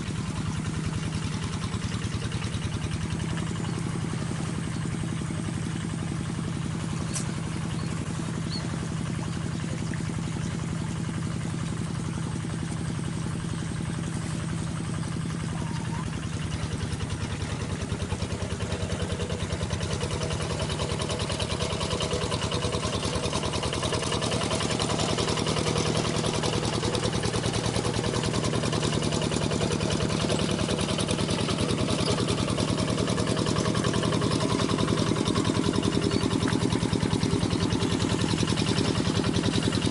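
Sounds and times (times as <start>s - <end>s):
single-cylinder diesel engine running: 0.0s - 39.9s.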